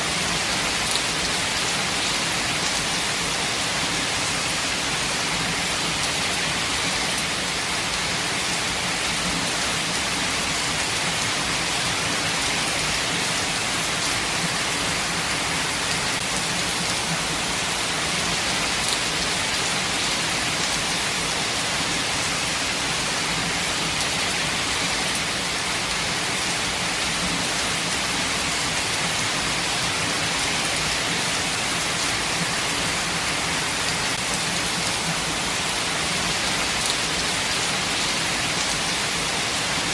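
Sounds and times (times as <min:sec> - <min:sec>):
rain on ground and foliage: 0:00.0 - 0:39.9.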